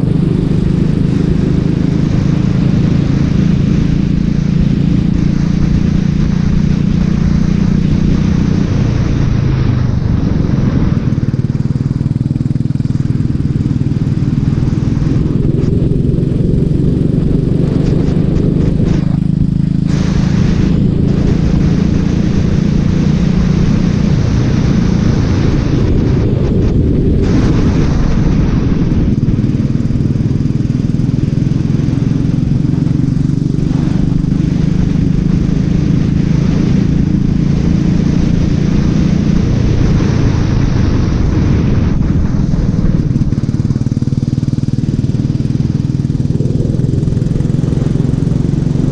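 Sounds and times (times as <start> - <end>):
racing kart engine revving: 0.0 - 48.9.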